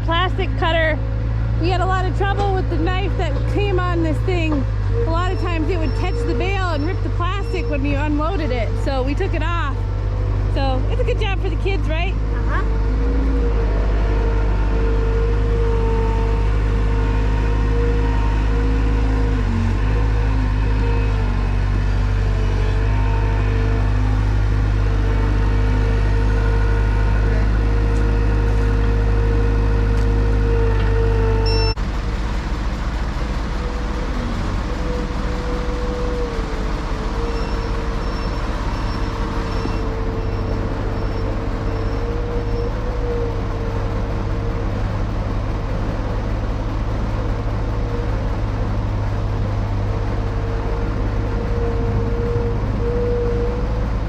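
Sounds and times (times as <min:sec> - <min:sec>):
bale-wrapping machinery whine: 0:00.0 - 0:54.0
tractor engine running: 0:00.0 - 0:54.0.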